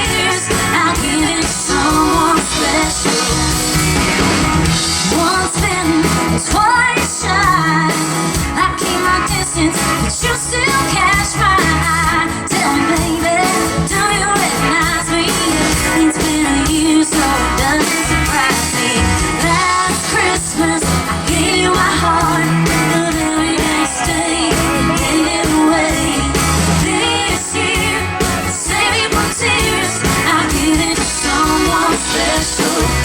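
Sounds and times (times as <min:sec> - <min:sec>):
woman singing: 0:00.0 - 0:03.5, 0:05.0 - 0:33.0
live band accompaniment: 0:00.0 - 0:33.0.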